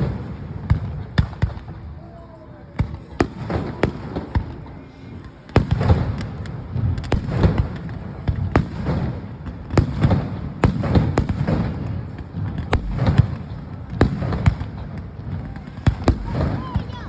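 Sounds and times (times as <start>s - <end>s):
fireworks booming and cracking: 0.0s - 1.9s, 2.8s - 17.0s.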